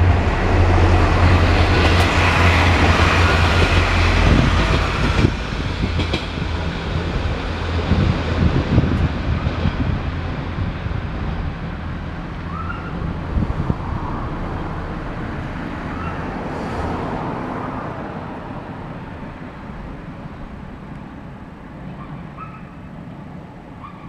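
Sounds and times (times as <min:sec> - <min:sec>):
diesel railcar rumbling: 0:00.0 - 0:24.0.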